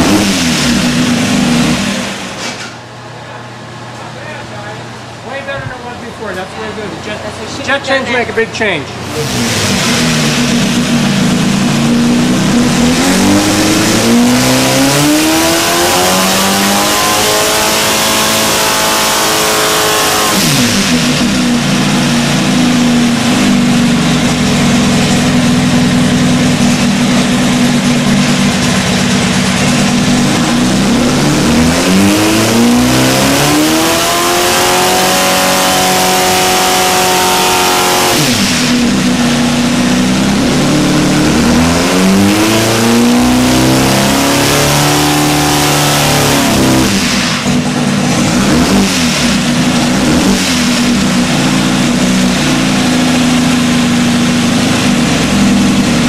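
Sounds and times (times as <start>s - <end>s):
engine revving on dyno: 0.0s - 2.8s, 9.0s - 56.0s.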